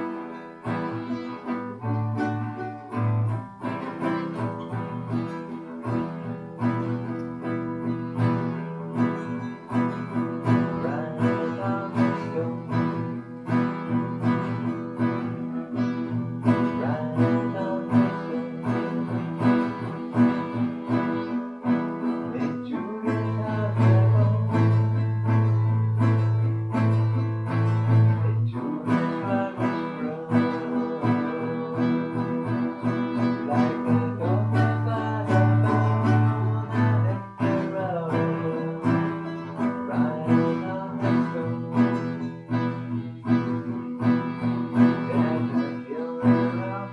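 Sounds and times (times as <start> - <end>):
guitar plucked melody: 0.0 - 46.9.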